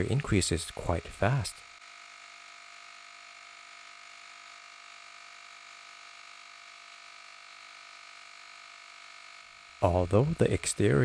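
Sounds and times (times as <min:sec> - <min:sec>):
tire inflator motor humming: 0:00.0 - 0:11.0.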